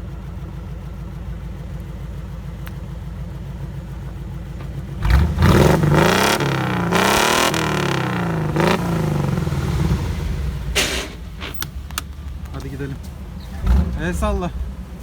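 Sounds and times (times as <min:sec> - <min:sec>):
engine exhaust idling and revving: 0:00.0 - 0:15.0.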